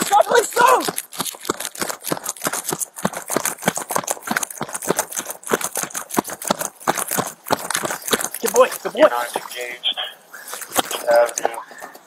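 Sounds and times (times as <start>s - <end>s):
body camera clatter: 0.0s - 9.7s, 10.5s - 12.0s
running footsteps: 0.0s - 12.0s.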